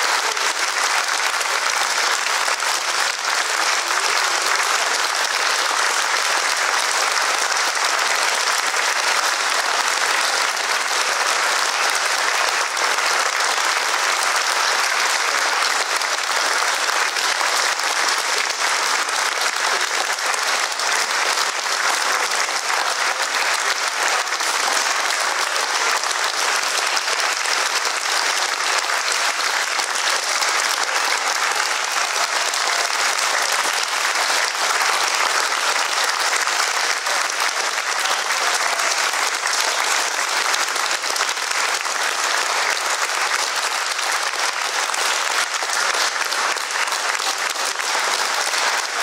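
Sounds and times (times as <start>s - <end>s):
audience applauding: 0.0s - 49.0s.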